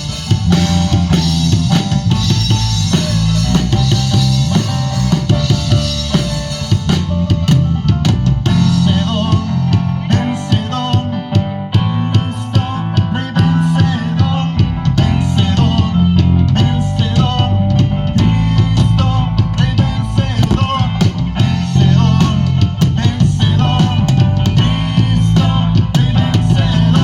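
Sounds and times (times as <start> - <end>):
bass drum and snare strokes: 0.0 - 10.4, 13.7 - 27.0
band playing instrumental: 0.0 - 27.0.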